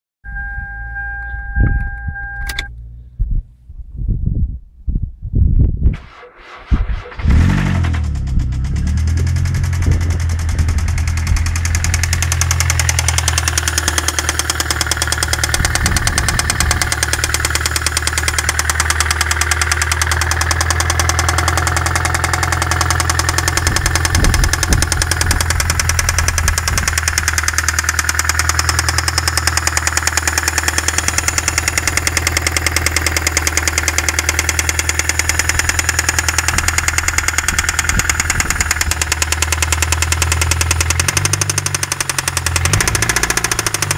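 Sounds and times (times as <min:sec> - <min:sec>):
engine running with a knock: 0:07.2 - 0:43.9.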